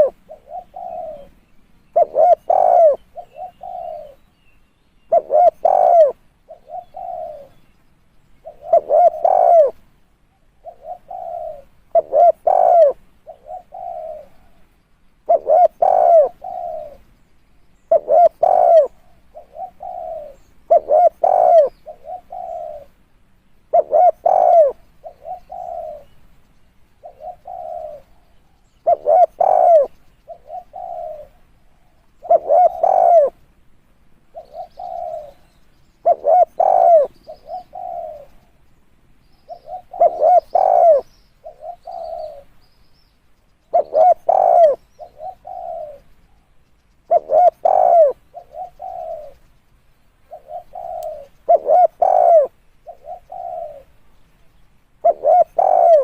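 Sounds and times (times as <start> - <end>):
dove cooing: 0.0 - 4.3, 5.0 - 7.7, 8.4 - 17.0, 17.9 - 23.0, 23.7 - 26.2, 27.0 - 33.4, 34.2 - 38.6, 39.4 - 42.5, 43.7 - 46.1, 47.1 - 49.5, 50.3 - 54.0, 55.0 - 56.0.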